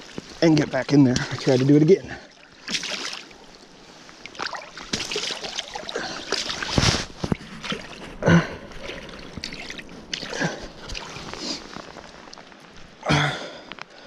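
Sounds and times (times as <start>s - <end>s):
boots squelching in muddy water: 0.0s - 12.7s
water splashes: 0.0s - 13.1s.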